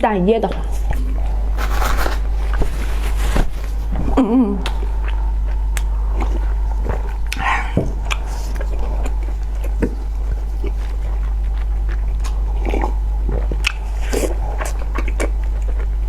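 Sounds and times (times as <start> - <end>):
steady low hum: 0.0 - 16.0
wet chewing mouth sounds: 0.5 - 16.0.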